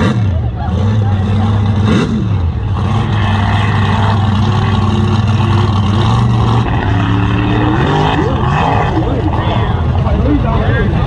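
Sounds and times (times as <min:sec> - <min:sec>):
truck engine running loudly: 0:00.0 - 0:11.0.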